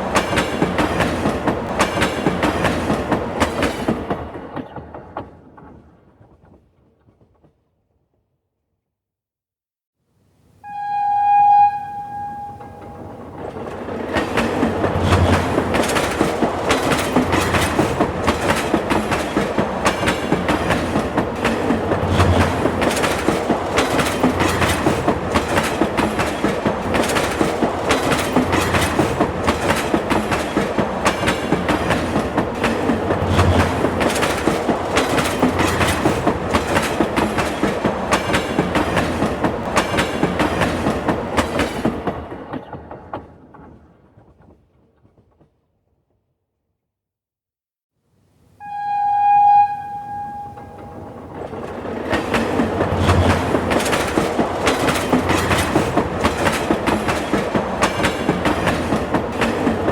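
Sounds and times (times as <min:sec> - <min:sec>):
train wheels clattering on rails: 0:00.0 - 0:07.6, 0:12.4 - 0:45.7, 0:50.2 - 0:59.9.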